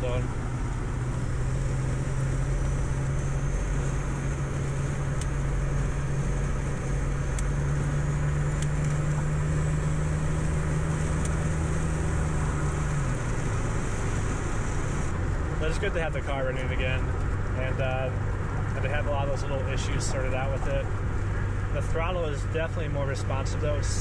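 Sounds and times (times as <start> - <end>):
car engine hum: 0.0 - 24.0.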